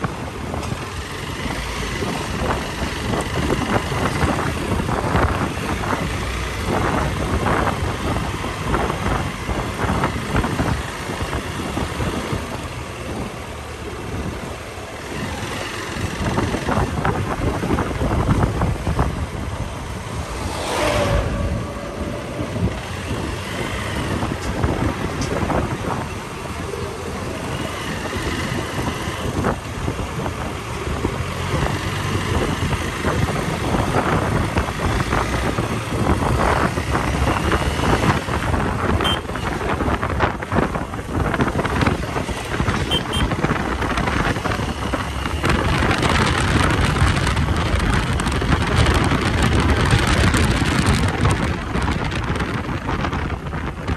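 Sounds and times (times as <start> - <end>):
wind buffeting microphone: 0.0 - 14.6, 15.2 - 53.9
moving vehicle rushing noise: 0.0 - 53.9.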